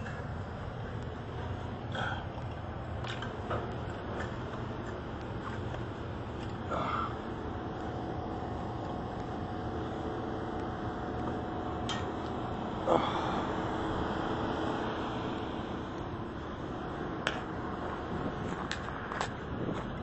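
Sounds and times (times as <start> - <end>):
hvac equipment humming: 0.0 - 20.0.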